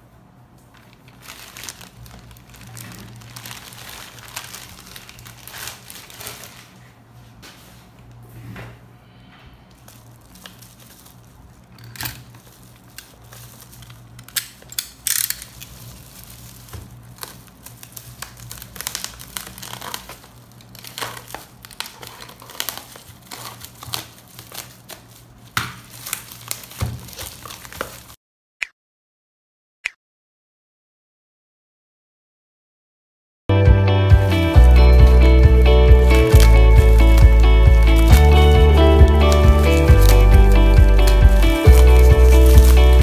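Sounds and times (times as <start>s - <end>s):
low steady hum: 0.0s - 27.1s, 33.8s - 43.0s
plastic wrap crinkling: 0.6s - 8.2s, 9.5s - 28.2s, 34.3s - 43.0s.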